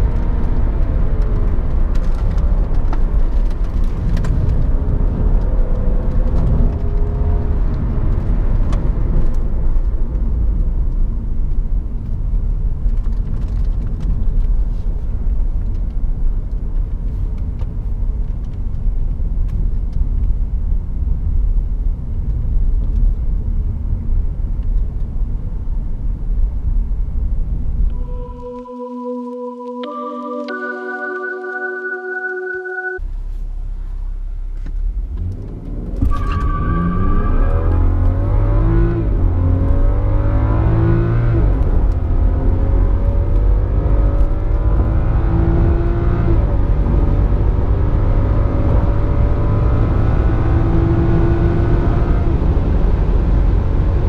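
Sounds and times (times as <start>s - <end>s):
tyre and road noise: 0.0s - 28.1s, 34.6s - 54.0s
car engine rumble: 0.0s - 28.6s, 33.0s - 54.0s.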